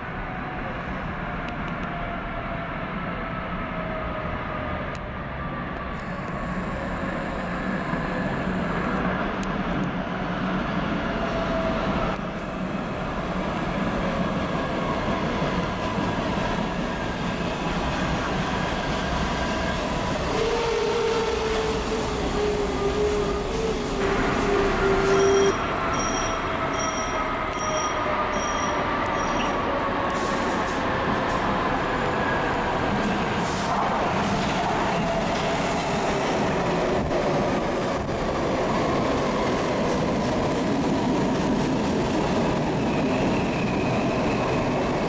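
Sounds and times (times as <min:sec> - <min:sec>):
train wheels rumbling on rails: 0:00.0 - 0:45.0
train whine sliding down: 0:03.5 - 0:45.0.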